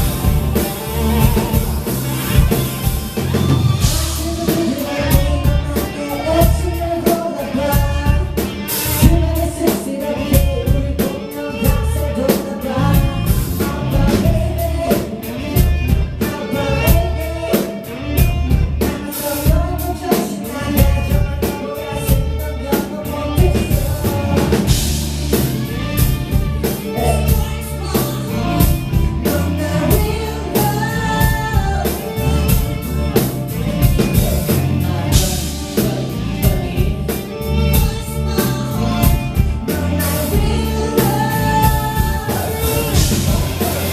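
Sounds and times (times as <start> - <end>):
heavy drum beat: 0.0 - 17.3, 23.3 - 43.9
bass: 0.0 - 43.9
man singing: 0.0 - 43.9.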